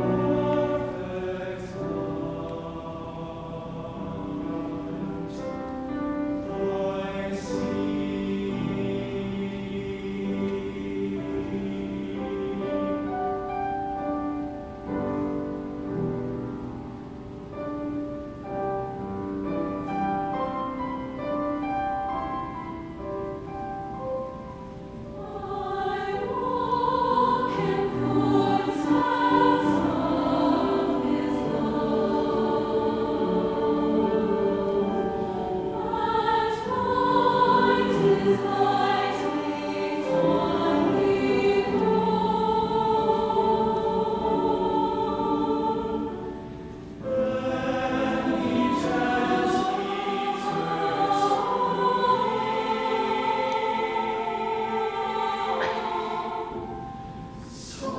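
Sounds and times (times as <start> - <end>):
grand piano: 0.0 - 57.9
mixed choir singing: 0.0 - 57.9.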